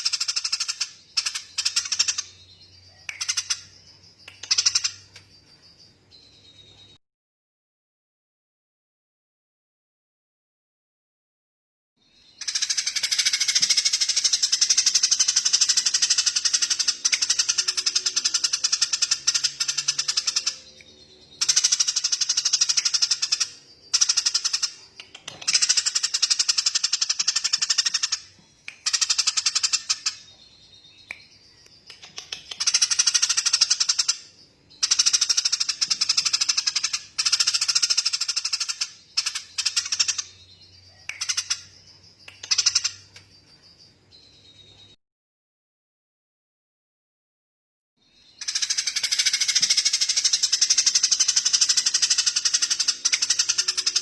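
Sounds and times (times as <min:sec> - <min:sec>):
songbird rattling trill: 0:00.0 - 0:06.8, 0:12.2 - 0:44.8, 0:48.2 - 0:54.0.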